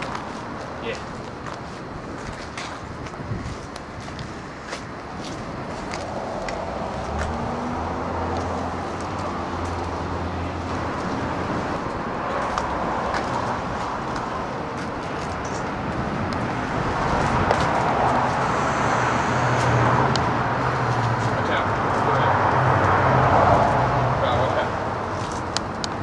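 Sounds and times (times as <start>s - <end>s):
road traffic noise: 0.0s - 26.0s
vehicle engine humming: 0.0s - 26.0s.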